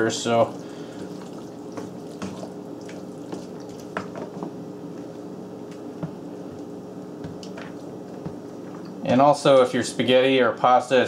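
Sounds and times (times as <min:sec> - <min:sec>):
wet squishing of stirred sauce: 0:00.0 - 0:09.0.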